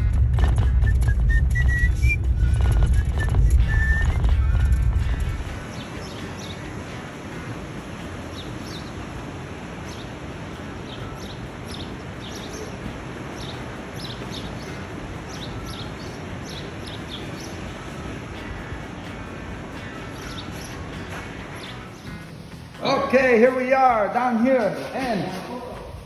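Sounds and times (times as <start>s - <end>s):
small birds chirping: 0.0s - 26.0s
steady rushing background noise: 0.0s - 26.0s.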